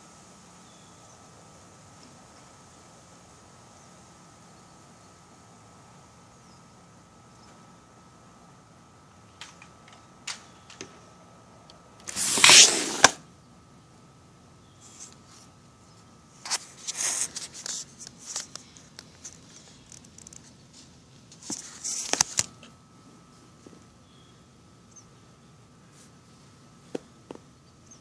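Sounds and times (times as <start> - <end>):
faint steady tone: 0.0 - 12.1, 13.0 - 28.0.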